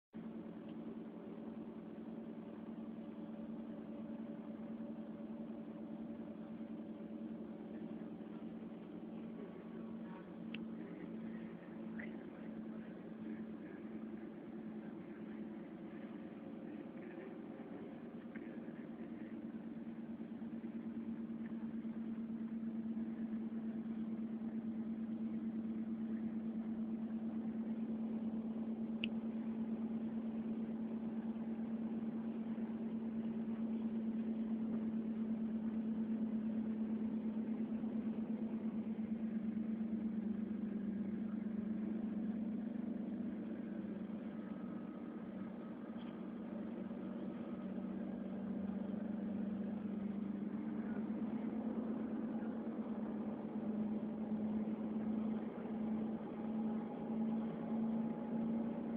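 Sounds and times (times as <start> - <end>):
train mechanical hum: 0.2 - 58.9.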